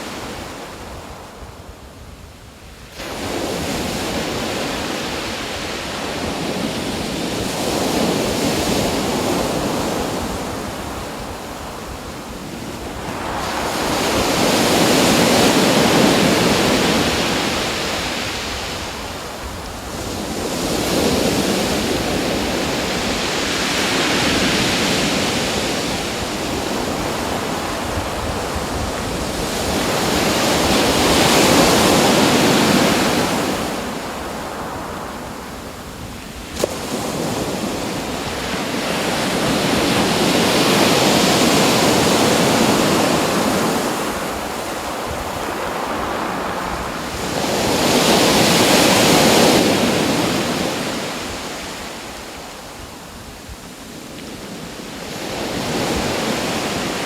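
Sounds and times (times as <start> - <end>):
ocean waves breaking: 3.0 - 52.4.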